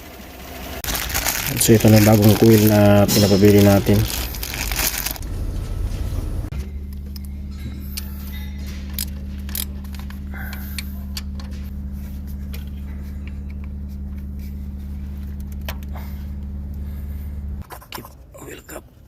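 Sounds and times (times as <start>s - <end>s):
machine humming: 0.0s - 17.6s.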